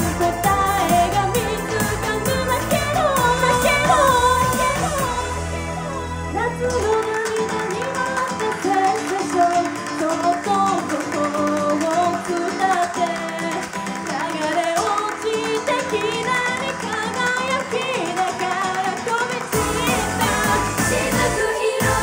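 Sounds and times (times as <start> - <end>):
pop band with guitar: 0.0 - 22.0
woman singing into microphone: 0.0 - 22.0.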